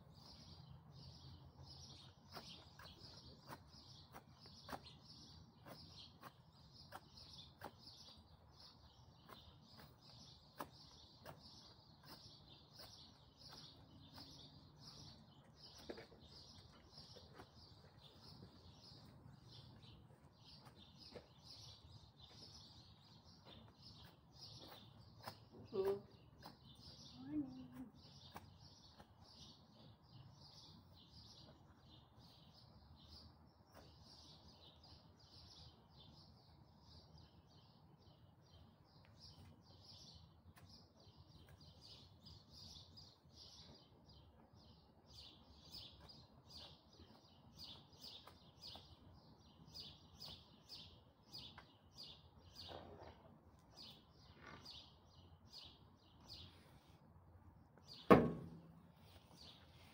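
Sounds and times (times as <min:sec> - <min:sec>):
small bird chirping: 0:00.0 - 0:59.9.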